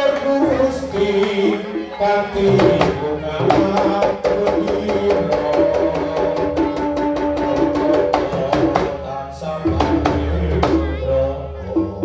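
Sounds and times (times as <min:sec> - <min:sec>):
hand-drum strokes: 0:00.0 - 0:12.0
wavering melody line: 0:00.0 - 0:12.0.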